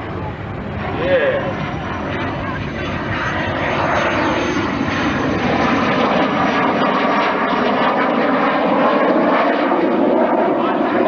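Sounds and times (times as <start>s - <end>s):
jet aircraft flying past: 0.0s - 11.0s.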